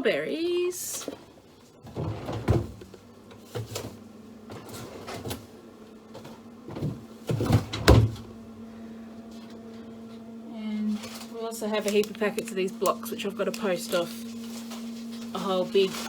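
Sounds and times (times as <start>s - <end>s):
low steady hum: 0.0s - 16.0s
groceries bumping in a fridge: 0.8s - 16.0s.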